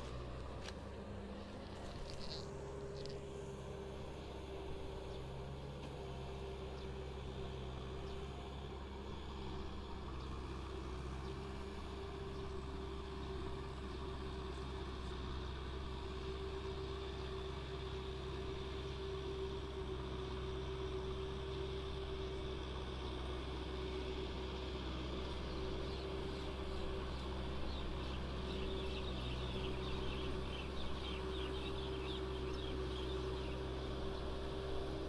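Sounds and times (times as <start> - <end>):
constant hum: 0.0 - 35.0
tractor diesel engine running: 0.0 - 35.0.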